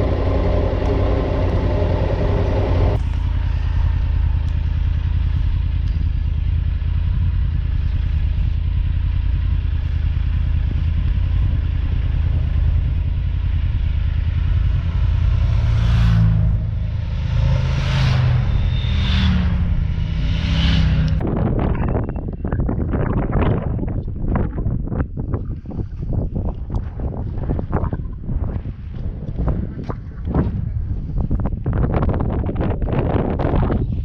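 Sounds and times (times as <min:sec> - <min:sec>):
motorcycle engine running: 0:00.0 - 0:34.0
road noise: 0:00.0 - 0:34.0.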